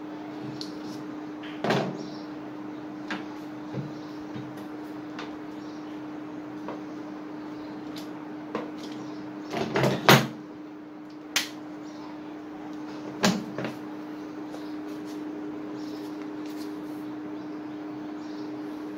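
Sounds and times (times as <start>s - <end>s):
steady hum: 0.0s - 18.9s.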